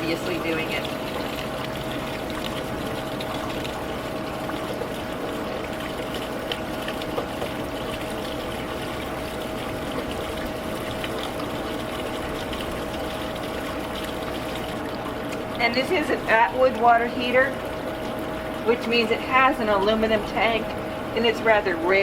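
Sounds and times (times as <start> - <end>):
constant thin hum: 0.0 - 22.0
water rushing from drain: 0.0 - 22.0.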